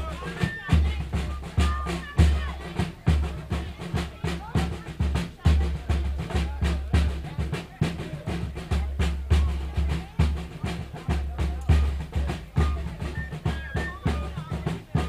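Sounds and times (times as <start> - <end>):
snare drum strokes: 0.0 - 15.0
voices: 0.0 - 15.0.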